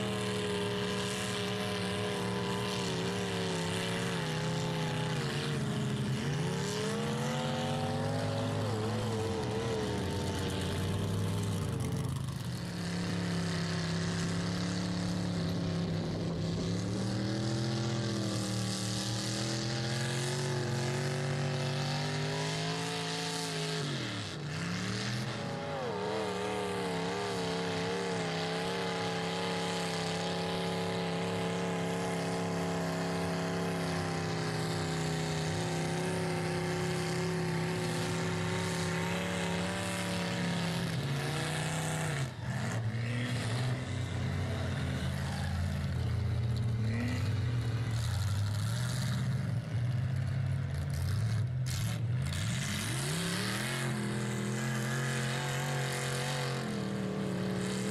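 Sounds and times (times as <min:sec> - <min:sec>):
tires spinning through mud: 0:00.0 - 0:57.9
truck engine revving: 0:00.0 - 0:57.9.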